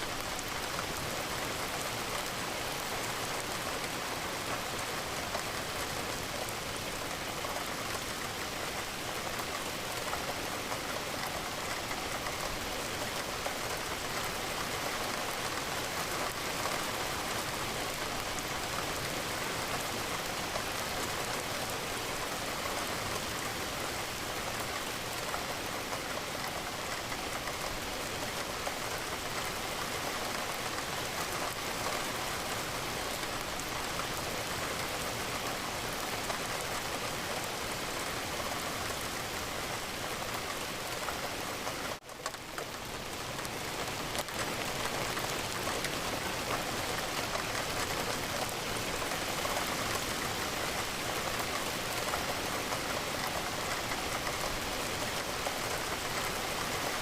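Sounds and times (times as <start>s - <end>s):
rain falling against a window: 0.0s - 57.0s.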